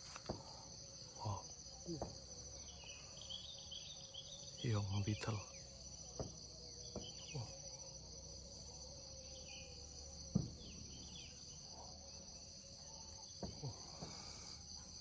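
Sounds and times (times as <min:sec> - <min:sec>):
insects buzzing and trilling: 0:00.0 - 0:15.0.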